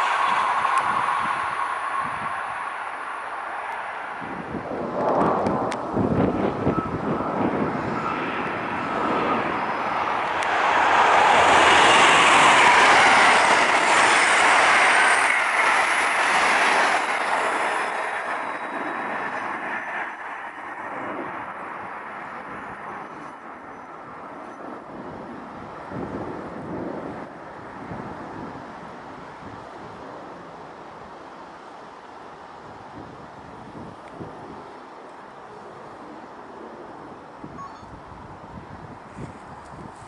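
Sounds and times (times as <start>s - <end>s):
passenger train passing: 0.0s - 40.0s.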